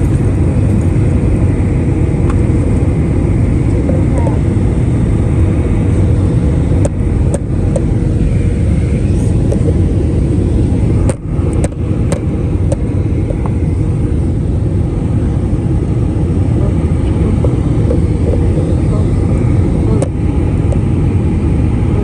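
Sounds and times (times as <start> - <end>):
airplane cabin noise: 0.0 - 22.0.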